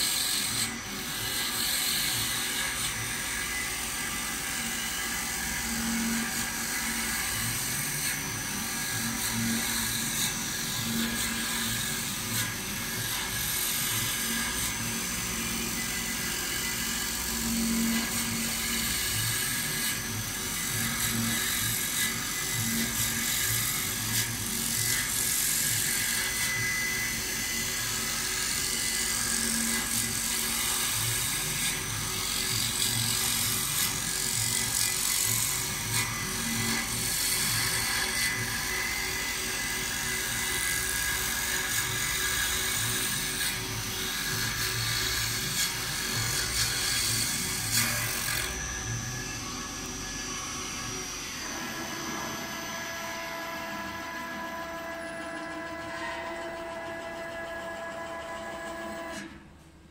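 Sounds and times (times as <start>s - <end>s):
wood lathe whirring: 0.0s - 59.6s.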